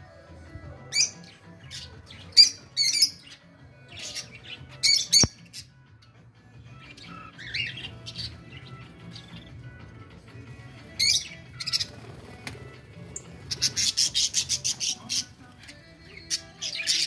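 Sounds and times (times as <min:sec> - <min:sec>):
cage birds squawking: 0:00.3 - 0:17.0.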